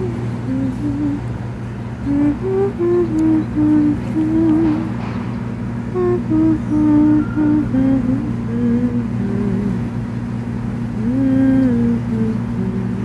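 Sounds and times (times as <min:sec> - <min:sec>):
person humming slow tune: 0:00.0 - 0:01.4, 0:02.0 - 0:05.0, 0:05.9 - 0:09.9, 0:10.8 - 0:13.0
steady low drone: 0:00.0 - 0:13.0.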